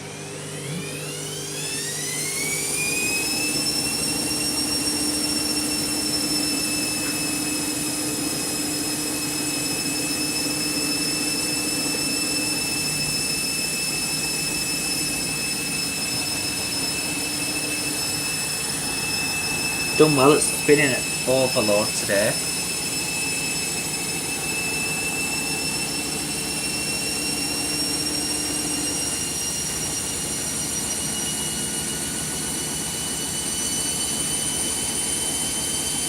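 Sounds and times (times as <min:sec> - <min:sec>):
washing machine spinning: 0:00.0 - 0:36.0.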